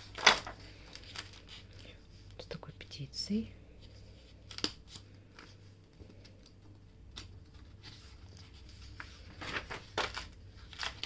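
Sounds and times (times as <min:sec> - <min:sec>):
paper pages rustling: 0:00.0 - 0:02.4, 0:03.8 - 0:11.0.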